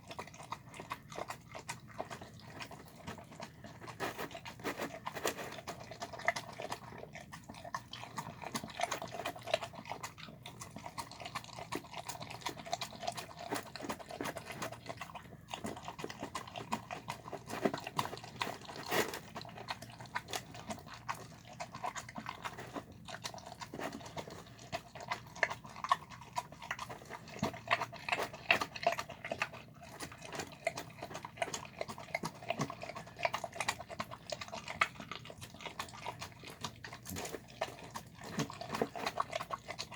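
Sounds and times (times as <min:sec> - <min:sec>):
dog eating from a bowl: 0:00.0 - 0:39.9.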